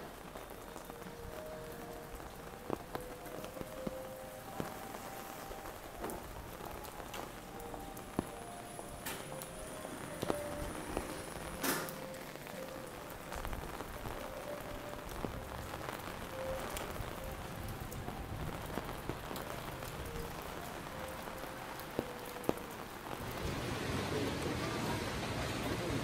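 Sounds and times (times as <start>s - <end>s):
steady rain pattering: 0.0s - 26.0s.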